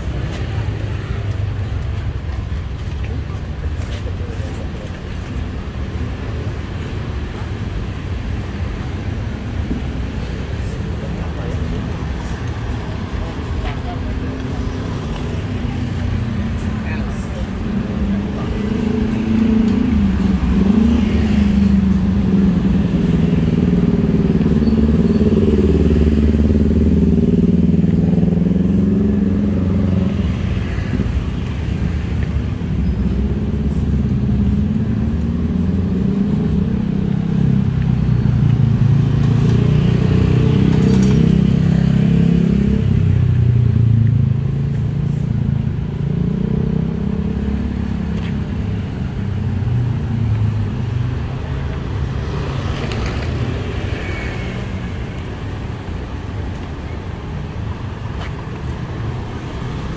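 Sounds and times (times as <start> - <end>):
vehicle engines in traffic: 0.0 - 59.9.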